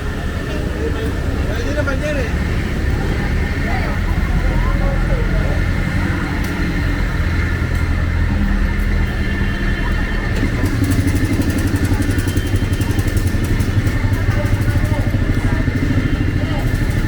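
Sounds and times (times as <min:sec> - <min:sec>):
motorcycle engine running: 0:00.0 - 0:17.0
street traffic: 0:00.0 - 0:17.0.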